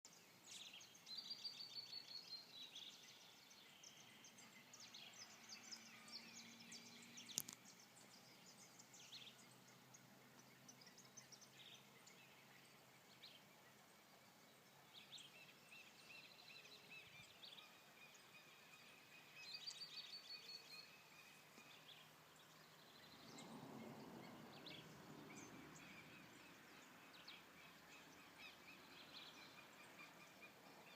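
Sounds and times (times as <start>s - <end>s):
songbirds chirping: 0.0s - 30.9s.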